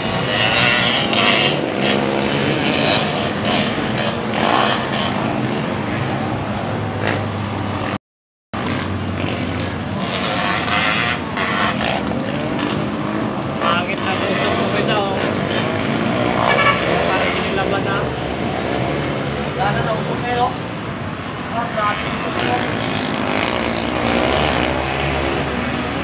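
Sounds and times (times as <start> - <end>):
distant dirt bike engines: 0.0 - 8.0, 8.6 - 26.0.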